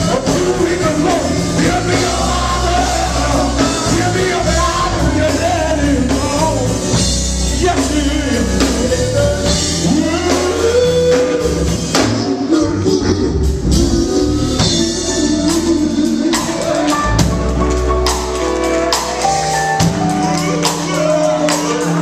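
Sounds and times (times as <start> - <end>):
person singing lead vocals: 0.0 - 17.7
drum kit: 0.0 - 22.0
heavy bass line: 0.0 - 22.0.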